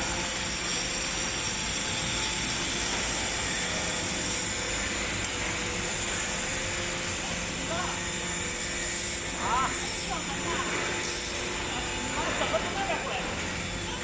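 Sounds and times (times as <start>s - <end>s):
hydraulic machine humming and whining: 0.0s - 14.0s.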